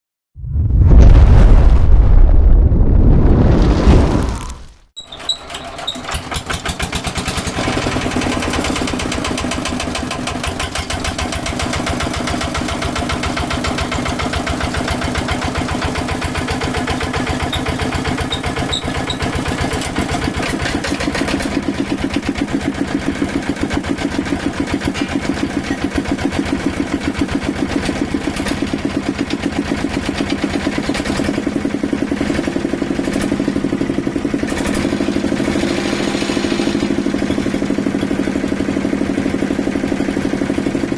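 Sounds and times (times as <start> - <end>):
tractor diesel engine idling: 5.0 - 40.9.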